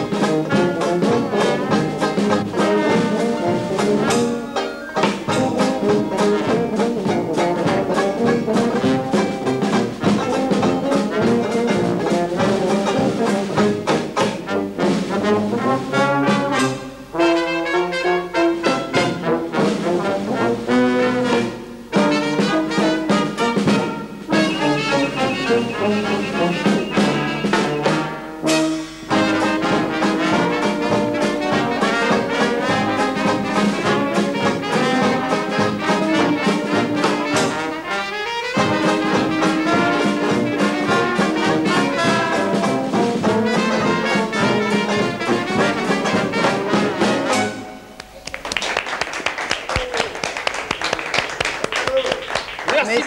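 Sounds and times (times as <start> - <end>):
drum kit beat: 0.0 - 37.9, 38.5 - 48.5
brass band playing: 0.0 - 48.9.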